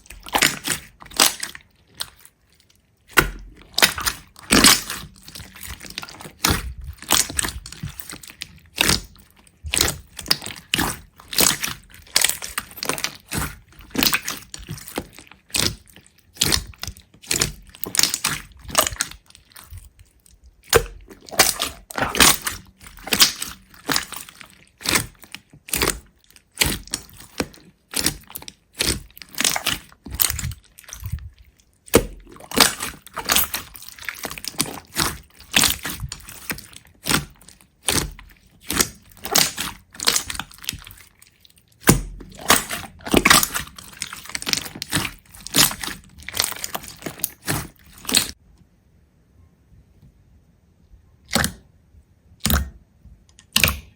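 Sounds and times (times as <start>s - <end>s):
sharp crunches and cracks: 0.0s - 48.4s, 53.4s - 53.9s.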